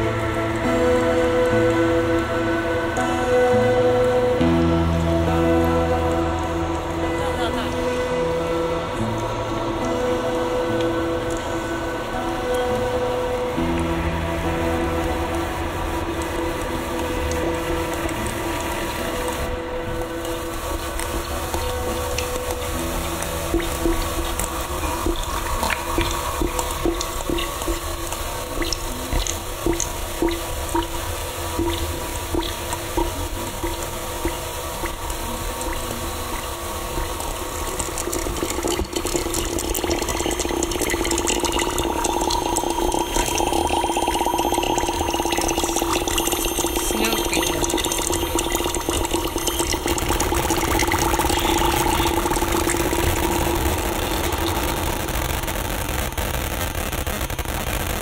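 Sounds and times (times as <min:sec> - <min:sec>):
sustained higher tones: 0:00.0 - 0:56.9
low drone tones: 0:00.0 - 0:57.8
noisy texture with crackles: 0:00.0 - 0:58.0.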